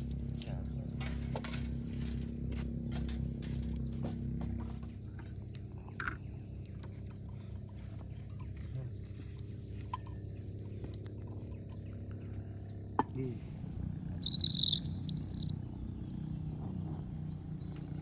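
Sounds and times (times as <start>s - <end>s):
bird chirping: 0.0s - 18.0s
low steady hum: 0.0s - 18.0s.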